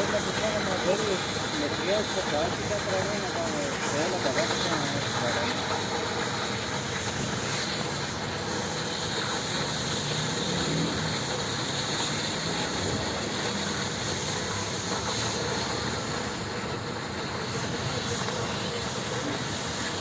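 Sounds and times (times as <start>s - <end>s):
cutting torch hissing: 0.0s - 20.0s.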